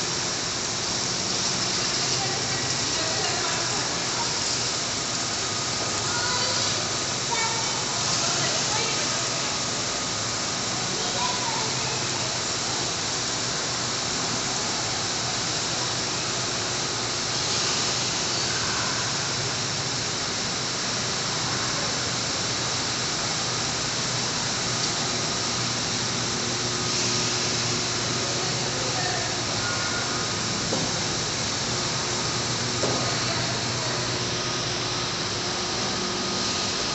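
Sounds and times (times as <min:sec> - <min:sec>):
steady rushing hall noise: 0:00.0 - 0:17.4, 0:18.0 - 0:36.9.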